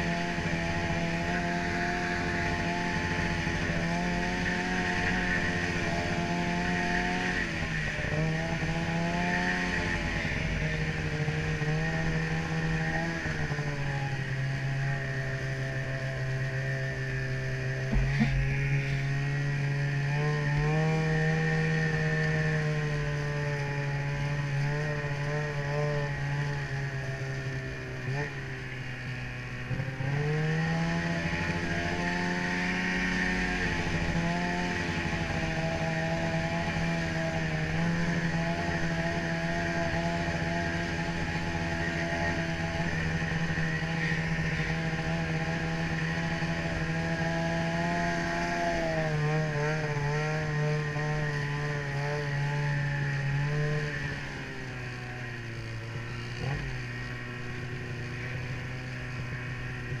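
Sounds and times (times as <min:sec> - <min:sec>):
snowmobile engine running: 0:00.0 - 1:00.0.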